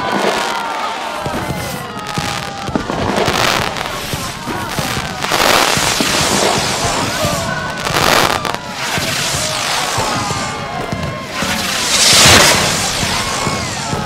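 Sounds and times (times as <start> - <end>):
crowd voices: 0.0 - 14.0
fireworks crackling: 0.0 - 14.0.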